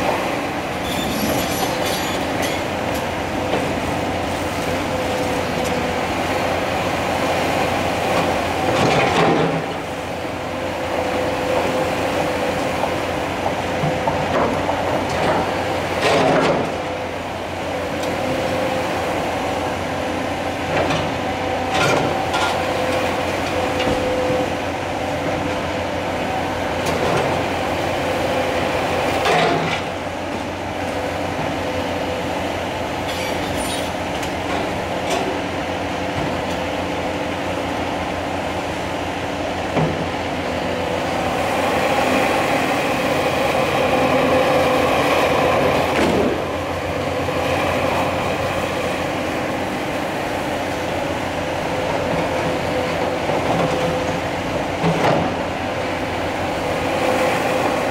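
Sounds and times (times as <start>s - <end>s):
excavator engine and hydraulics whine: 0.0s - 57.9s.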